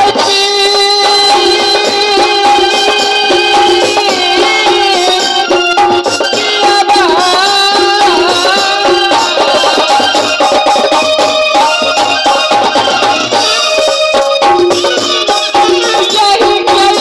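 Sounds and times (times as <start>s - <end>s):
hand drum rhythm: 0.0s - 17.0s.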